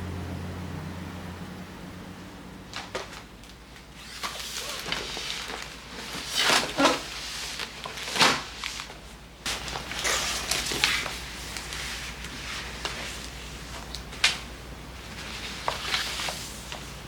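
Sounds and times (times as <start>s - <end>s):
objects rustling and scraping: 2.7s - 14.4s, 15.0s - 17.0s.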